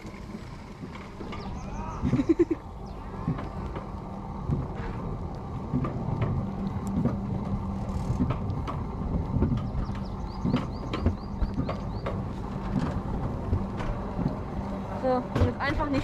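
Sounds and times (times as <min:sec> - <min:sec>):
coaster sled humming on track: 0:00.0 - 0:16.0.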